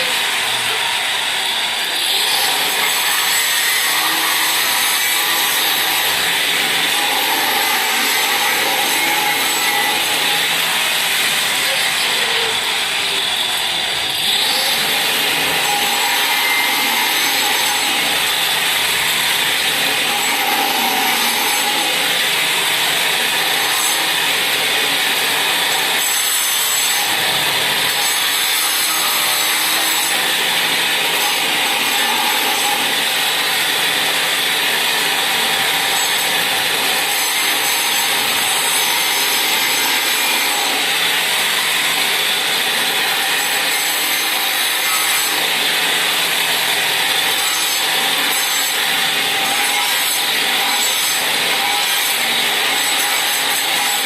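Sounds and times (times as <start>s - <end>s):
power tool running: 0.0s - 54.0s.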